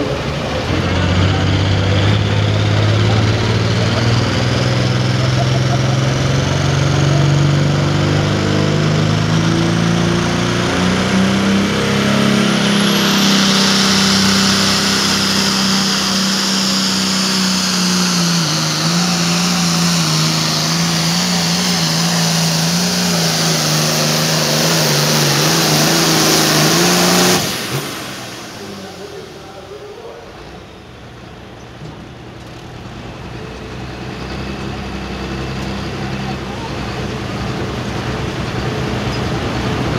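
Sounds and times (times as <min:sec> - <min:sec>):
diesel engine running hard: 0:00.0 - 0:39.9
engine whine: 0:00.0 - 0:39.9.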